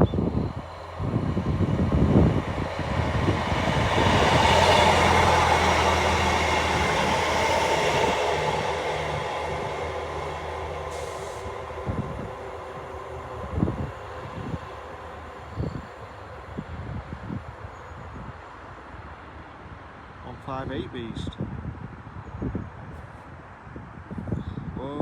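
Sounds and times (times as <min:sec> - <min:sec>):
train passing: 0:00.0 - 0:20.8.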